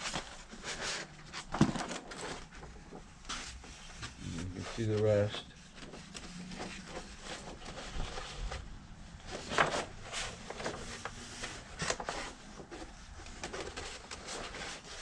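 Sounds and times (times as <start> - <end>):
paper poster crinkling and rustling: 0.0 - 15.0.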